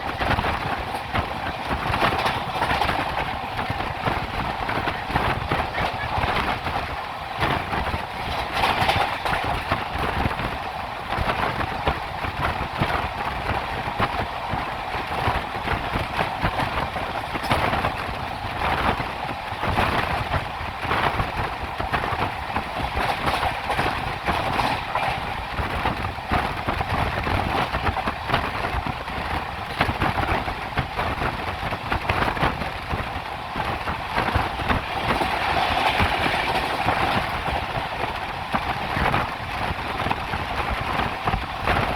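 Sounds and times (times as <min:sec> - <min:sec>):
train wheels rumbling on rails: 0:00.0 - 0:41.9
wheels clacking over rail joints: 0:00.0 - 0:41.9.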